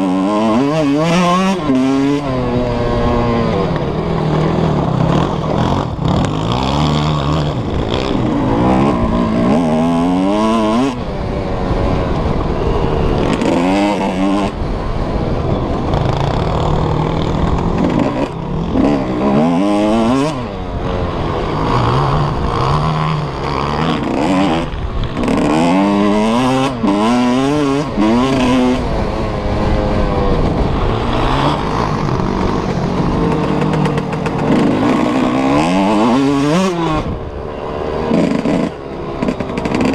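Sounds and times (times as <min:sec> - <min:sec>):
motocross engine revving hard: 0:00.0 - 0:15.0, 0:15.6 - 0:39.9.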